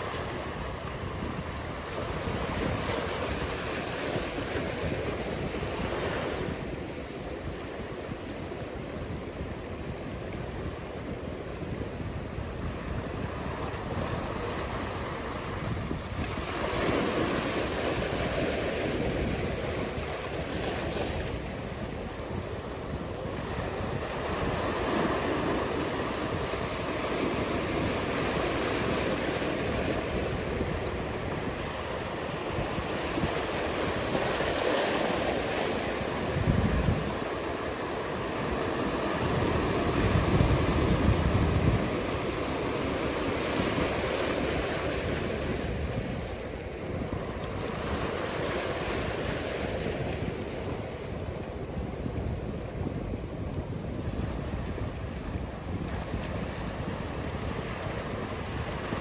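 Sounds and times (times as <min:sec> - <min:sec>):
ocean surf washing: 0:00.0 - 0:59.0
wind buffeting microphone: 0:00.0 - 0:59.0.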